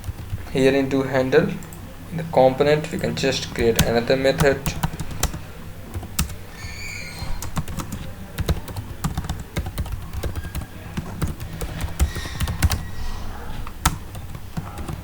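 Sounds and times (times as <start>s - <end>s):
keyboard typing: 0.0s - 15.0s.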